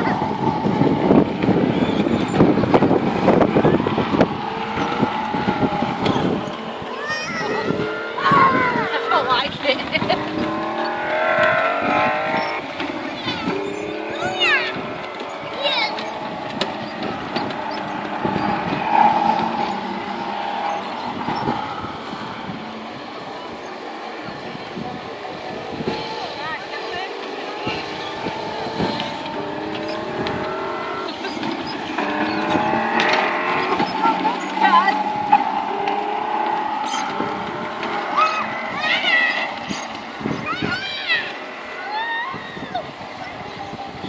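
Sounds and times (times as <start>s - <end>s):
quad bike engine running: 0.0s - 44.0s.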